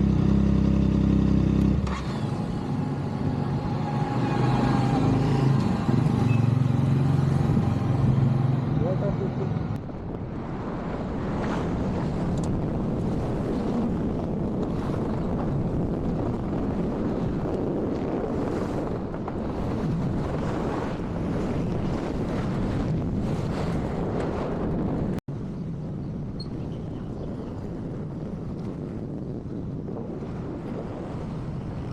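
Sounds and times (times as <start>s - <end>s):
motorcycle engine and road noise: 0.0s - 31.9s
wind buffeting on microphone: 1.7s - 31.9s.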